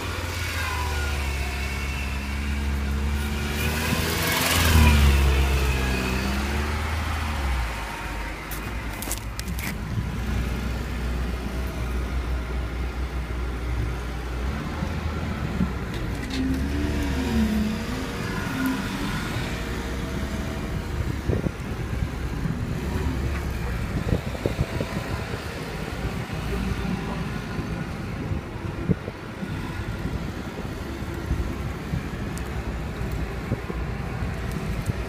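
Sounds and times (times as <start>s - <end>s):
buggy engine revving: 0.0s - 35.0s.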